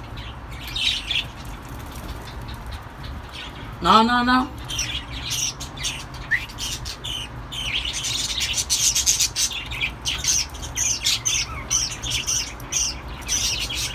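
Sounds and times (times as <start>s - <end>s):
parrots chirping and squawking: 0.0s - 13.9s.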